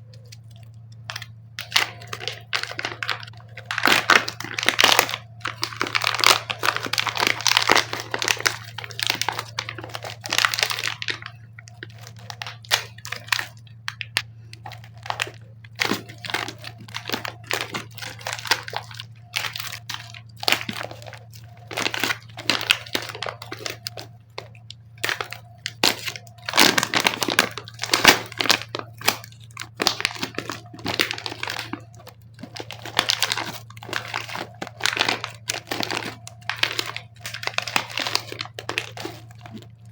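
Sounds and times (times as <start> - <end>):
faint low hum: 0.0 - 39.9
plastic packaging crinkling: 0.0 - 39.9.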